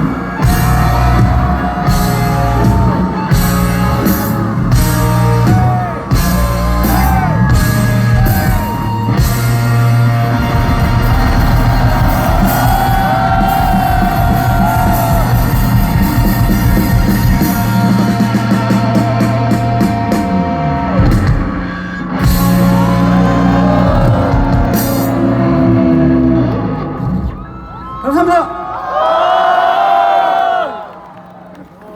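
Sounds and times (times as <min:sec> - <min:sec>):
pitch-bending guitar lines: 0:00.0 - 0:27.5
sustained bass notes: 0:00.0 - 0:27.5
live rock band playing: 0:00.0 - 0:27.9.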